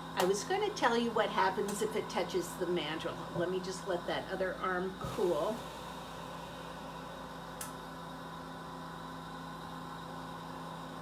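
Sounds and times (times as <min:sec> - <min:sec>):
torch burning hum and hiss: 0:00.0 - 0:11.0.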